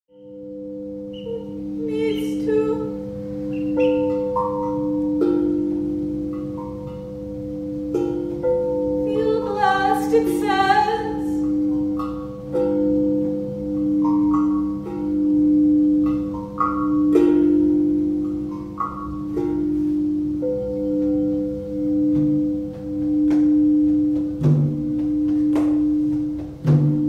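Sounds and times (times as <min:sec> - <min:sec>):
crystal singing bowls ringing: 0:00.1 - 0:26.1
struck bell-like notes: 0:00.1 - 0:27.0.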